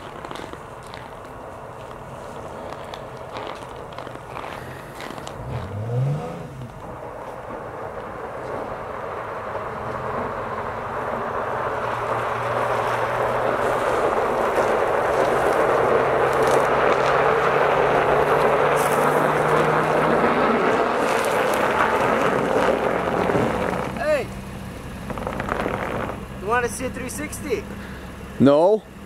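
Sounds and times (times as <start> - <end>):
tyres crunching on icy snow: 0.0 - 28.2
car engine humming: 0.0 - 29.0.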